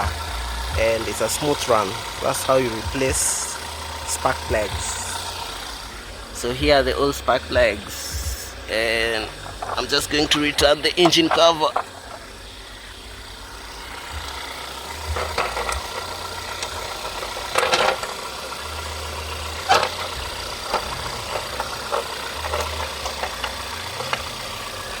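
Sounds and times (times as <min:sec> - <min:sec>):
low uneven rumble: 0:00.0 - 0:25.0.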